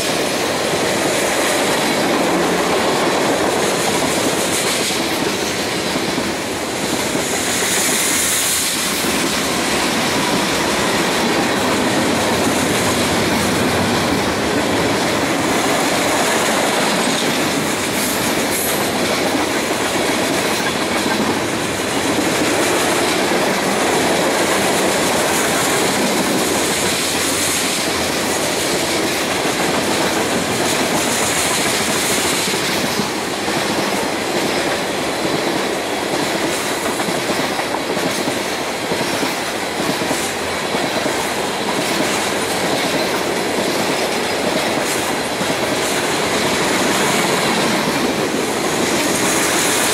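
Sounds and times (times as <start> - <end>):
freight train wheels on rails: 0.0 - 49.9.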